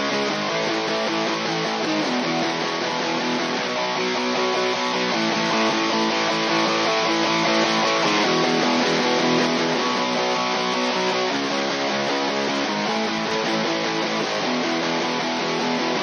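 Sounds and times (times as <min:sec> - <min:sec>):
electric guitar strummed chords: 0:00.0 - 0:16.0.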